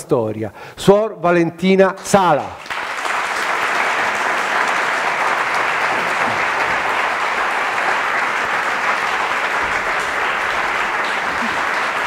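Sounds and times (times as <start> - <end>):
audience applauding: 2.2 - 12.0.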